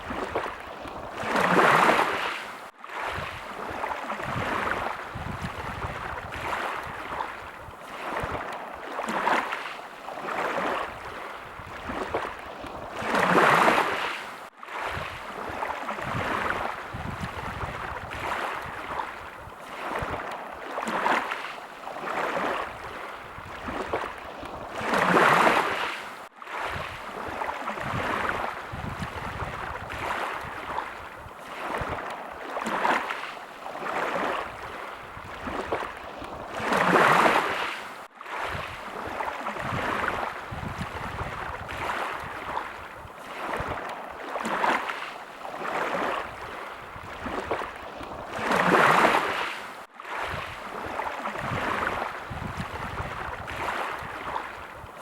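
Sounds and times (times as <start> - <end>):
sea waves washing in: 0.0 - 55.0.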